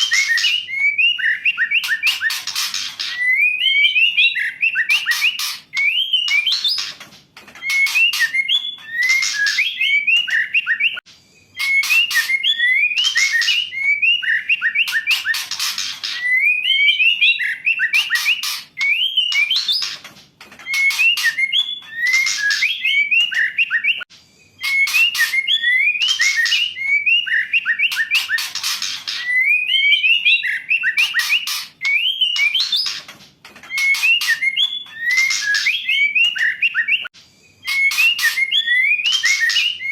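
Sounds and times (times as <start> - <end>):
bird calling whistles and rasps: 0.0 - 7.0, 7.6 - 20.0, 20.6 - 33.1, 33.7 - 39.9.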